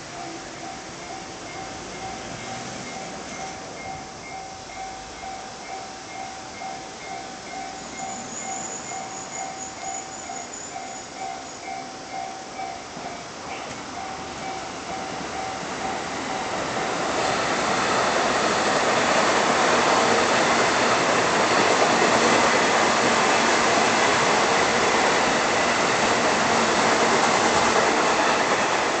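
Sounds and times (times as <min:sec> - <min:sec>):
train passing: 0:00.0 - 0:29.0.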